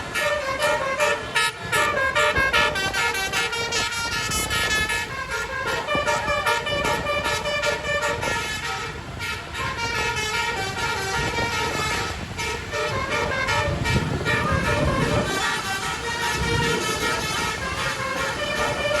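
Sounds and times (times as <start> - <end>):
bus engine rumble: 0.0 - 19.0
multi-tone air horn melody: 0.0 - 19.0.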